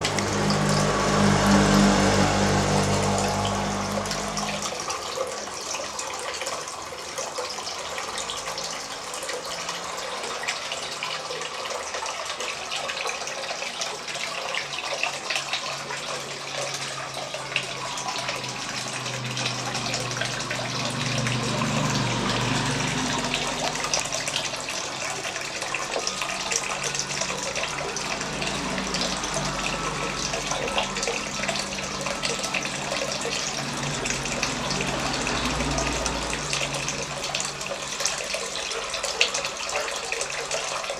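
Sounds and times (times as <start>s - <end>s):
water falling and splashing: 0.0s - 40.9s.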